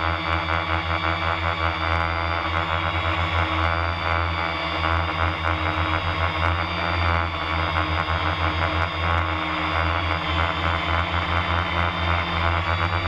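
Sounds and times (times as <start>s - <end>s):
drone propellers droning: 0.0s - 13.0s.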